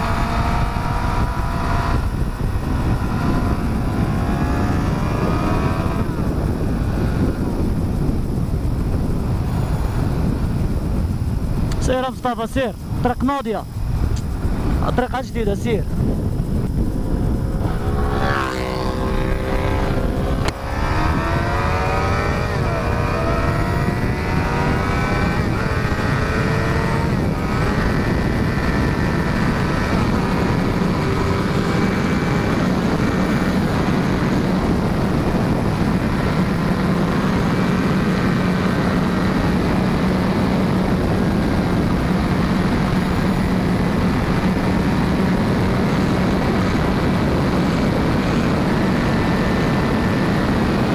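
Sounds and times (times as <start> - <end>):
motorcycle engine accelerating: 0.0 - 12.0, 13.0 - 50.9
wind rush: 0.0 - 50.9.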